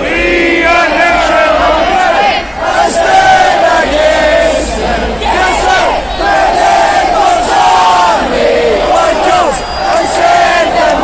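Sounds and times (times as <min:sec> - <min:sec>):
large crowd singing: 0:00.0 - 0:11.0.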